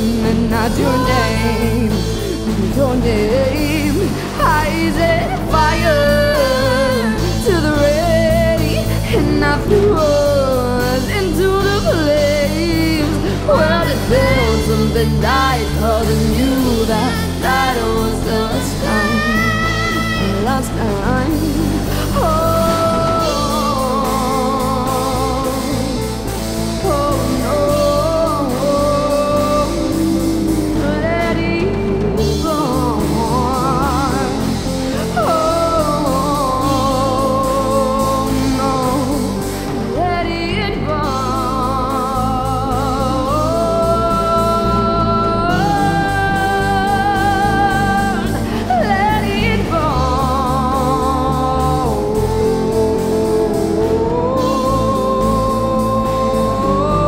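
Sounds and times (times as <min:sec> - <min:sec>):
rock band playing: 0:00.0 - 0:57.0
woman singing with vibrato: 0:00.0 - 0:57.0.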